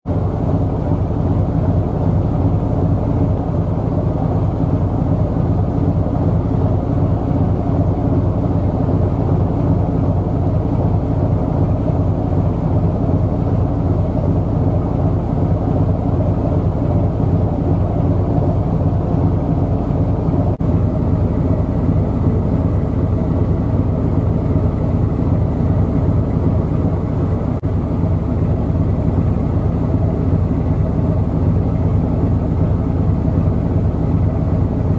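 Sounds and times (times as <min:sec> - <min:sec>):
ship diesel engine drone: 0:00.0 - 0:34.9.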